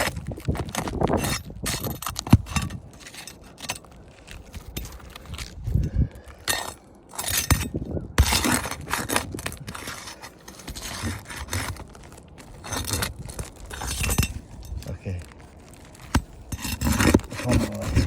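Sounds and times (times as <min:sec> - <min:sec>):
prying scrapes and crunches: 0:00.0 - 0:18.0.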